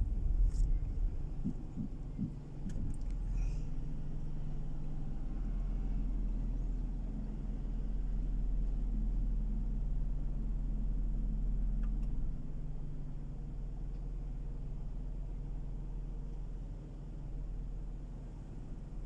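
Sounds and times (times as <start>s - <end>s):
engine and road noise: 0.0s - 19.0s.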